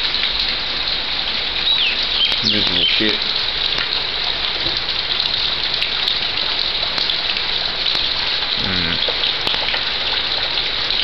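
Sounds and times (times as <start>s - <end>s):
heavy rain: 0.0s - 11.0s
raindrop ticks: 1.6s - 11.0s.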